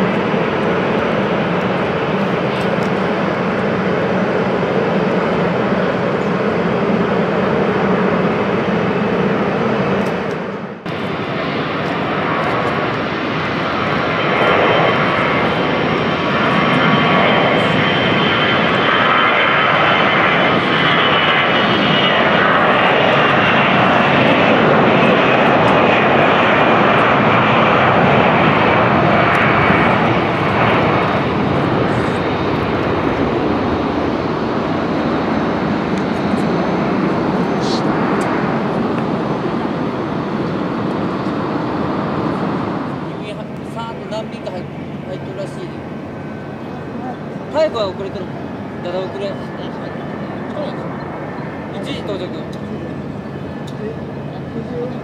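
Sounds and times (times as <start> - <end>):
high jet whine falling in pitch: 0.0 - 55.0
jet engine roar: 0.0 - 55.0.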